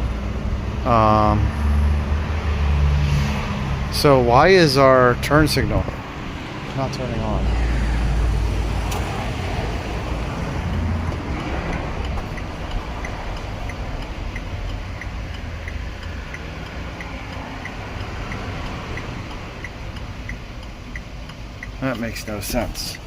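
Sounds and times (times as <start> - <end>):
steady low rumble: 0.0 - 23.0
turn signal ticking: 3.6 - 23.0.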